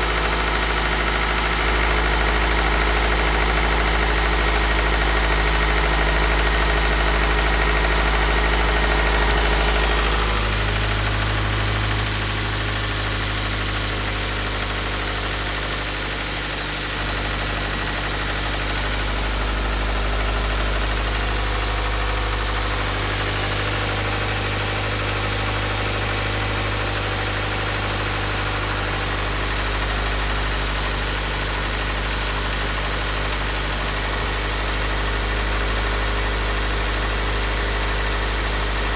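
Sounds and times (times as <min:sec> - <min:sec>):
engine idling: 0:00.0 - 0:38.9
engine knocking: 0:00.0 - 0:38.9.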